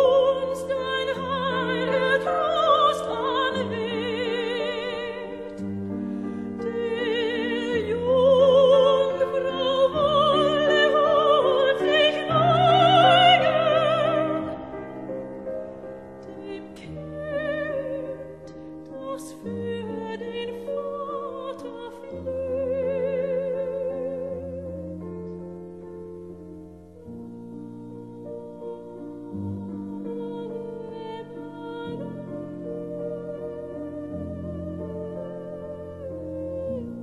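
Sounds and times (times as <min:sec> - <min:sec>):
slow classical background music: 0:00.0 - 0:37.0.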